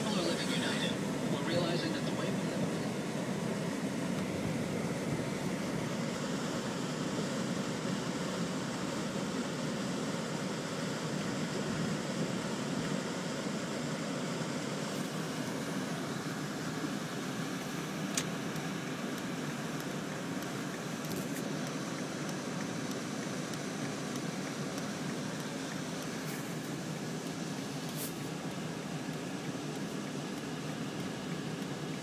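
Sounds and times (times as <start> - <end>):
car engine: 0.0 - 32.0
heater fan: 0.0 - 32.0.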